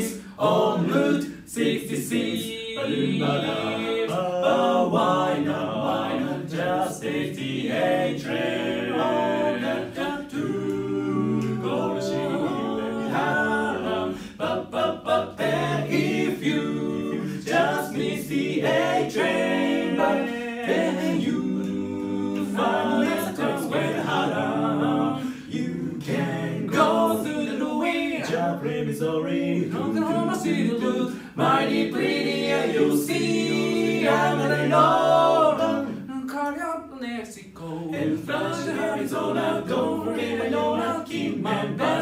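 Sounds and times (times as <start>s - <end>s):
men singing a cappella harmony: 0.0s - 42.0s.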